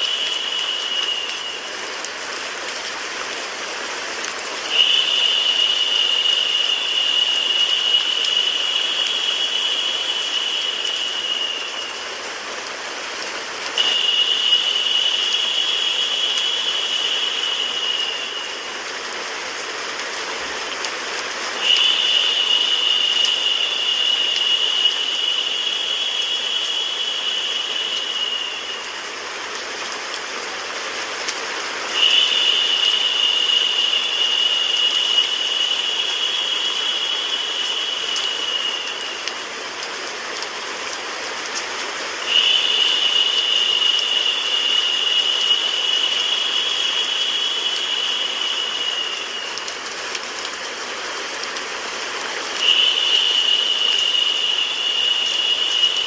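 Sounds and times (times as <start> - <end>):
higher narrow hiss: 0.0 - 3.3, 4.4 - 20.4, 21.0 - 31.0, 31.7 - 40.4, 42.2 - 51.2, 52.3 - 56.0
steady rain: 0.0 - 56.0
white-noise hiss: 0.0 - 56.0.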